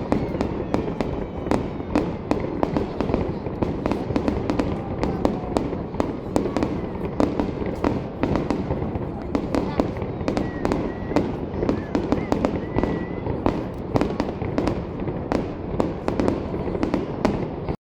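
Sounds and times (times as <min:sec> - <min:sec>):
fireworks bangs: 0:00.0 - 0:17.8
rumble of fireworks salvo: 0:00.0 - 0:17.8.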